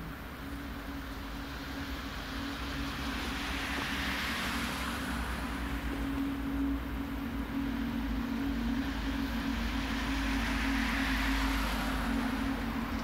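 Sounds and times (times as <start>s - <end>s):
low hum and rumble: 0.0s - 13.0s
car passing: 0.2s - 13.0s.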